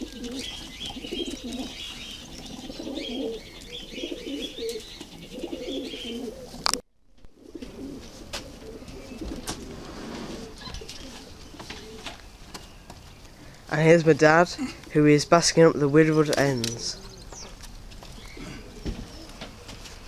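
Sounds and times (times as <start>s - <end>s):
pigeons cooing: 0.0s - 13.7s, 16.4s - 20.0s.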